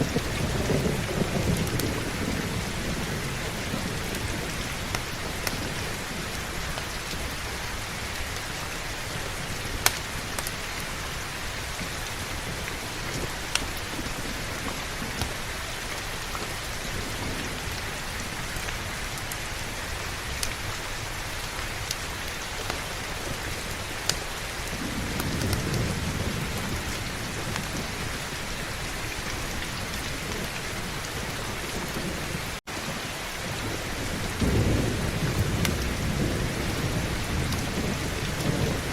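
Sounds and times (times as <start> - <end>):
heavy rain hiss: 0.0 - 38.9
low rumble of thunder: 0.0 - 38.9.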